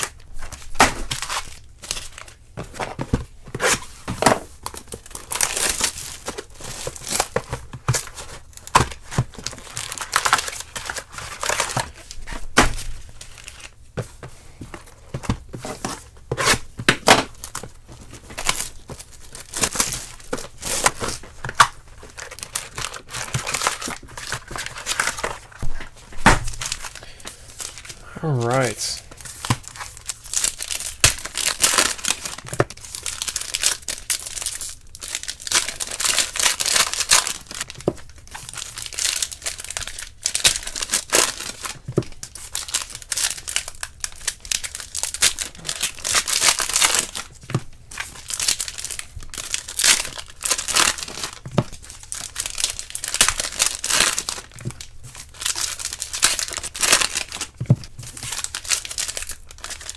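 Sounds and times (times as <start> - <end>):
foil wrappers crinkling and tearing: 0.0 - 59.9.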